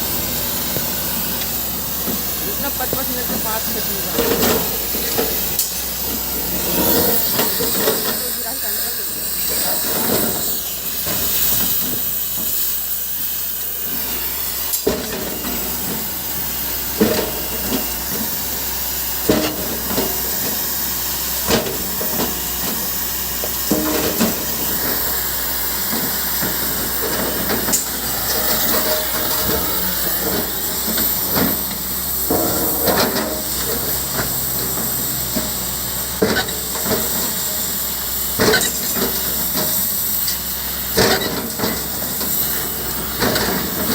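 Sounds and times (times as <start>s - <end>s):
backhoe engine hiss: 0.0s - 43.9s.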